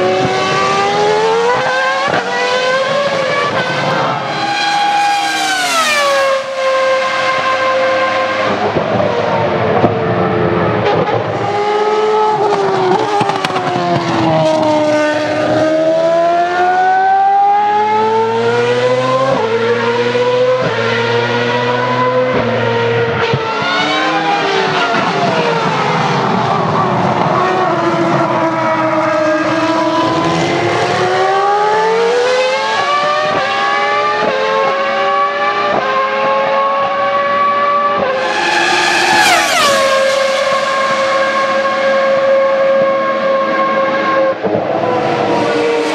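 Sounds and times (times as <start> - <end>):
racing car engines at high revs: 0.0 - 45.9
racing car passing close by: 0.0 - 45.9.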